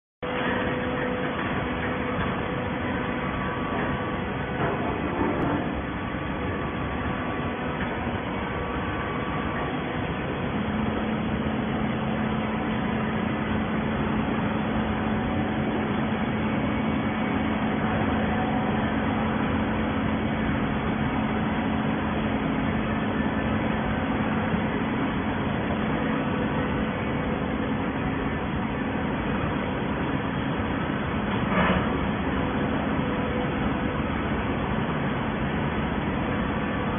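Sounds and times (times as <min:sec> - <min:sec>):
baler mechanical drone: 0:00.2 - 0:36.9
steady low hum: 0:00.2 - 0:36.9.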